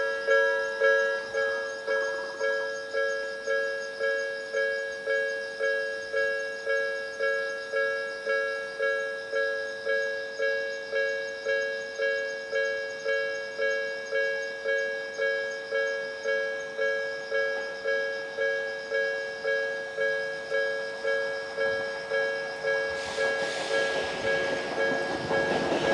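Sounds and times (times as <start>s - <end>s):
level-crossing warning bell: 0.0s - 25.9s.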